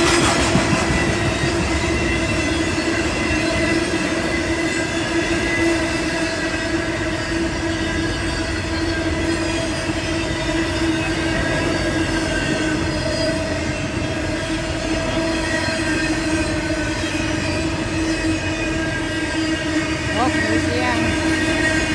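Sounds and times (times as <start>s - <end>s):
freight train rumble: 0.0s - 21.9s
steel wheels squealing on rails: 0.0s - 21.9s.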